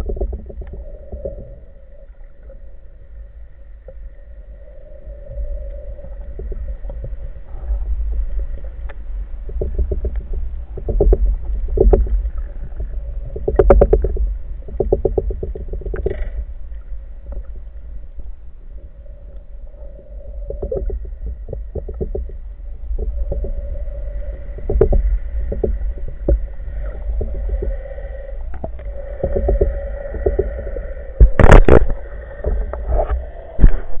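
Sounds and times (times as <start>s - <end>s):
underwater rumble: 0.0s - 34.0s.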